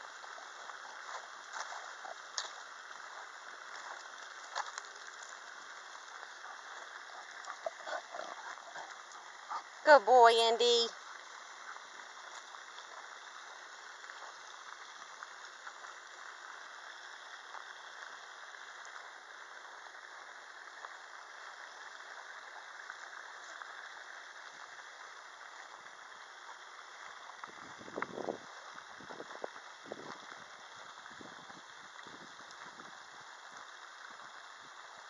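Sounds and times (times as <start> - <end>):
faint background hiss: 0.0 - 35.0.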